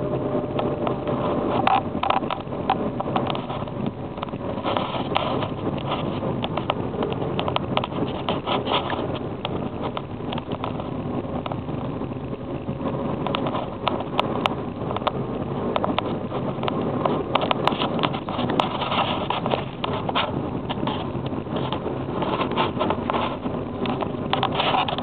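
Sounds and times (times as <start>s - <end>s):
car engine and road noise: 0.0s - 25.0s
sharp clicks and rattles: 0.0s - 25.0s.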